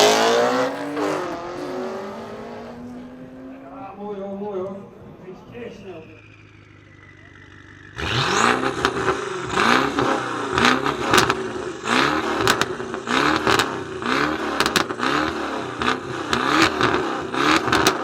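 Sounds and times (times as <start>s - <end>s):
car engine revving: 0.0s - 18.0s
exhaust cracks: 0.0s - 18.0s.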